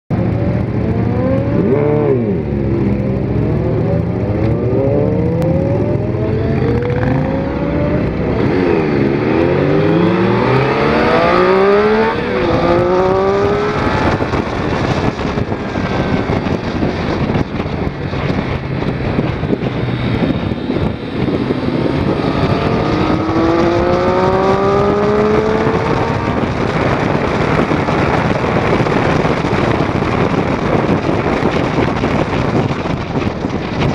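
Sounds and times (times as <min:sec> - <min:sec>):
wind noise: 0:00.1 - 0:33.9
motorcycle engine revving: 0:00.2 - 0:33.9.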